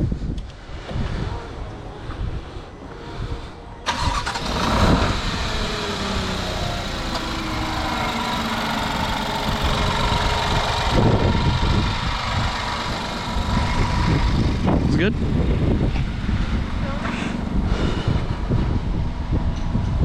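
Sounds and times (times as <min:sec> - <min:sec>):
car engine starting and idling: 0:03.8 - 0:20.0.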